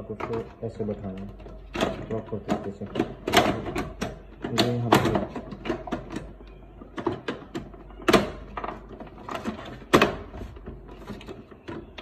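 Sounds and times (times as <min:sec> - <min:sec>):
plastic printer cover knocks and clicks: 0:00.0 - 0:12.0.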